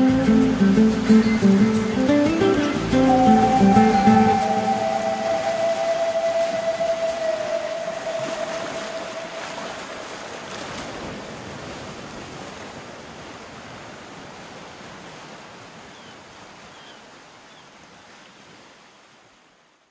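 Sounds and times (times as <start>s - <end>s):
ocean surf washing on shore: 0.0s - 19.7s.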